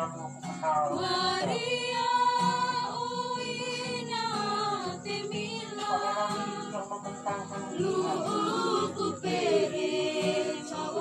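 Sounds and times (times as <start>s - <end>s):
group singing a hymn: 0.8s - 11.0s.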